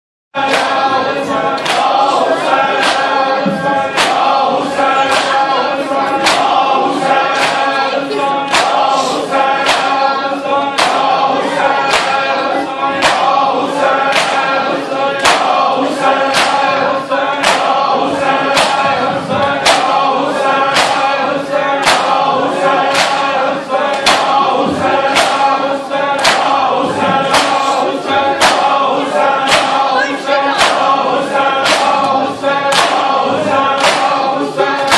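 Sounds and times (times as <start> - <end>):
crowd of men chanting: 0.4 - 34.9.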